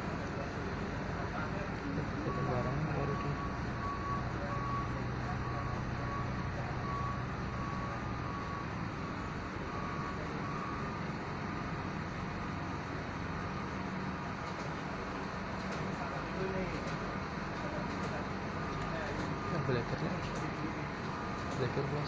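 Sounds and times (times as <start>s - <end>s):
large engine running: 0.0s - 22.0s.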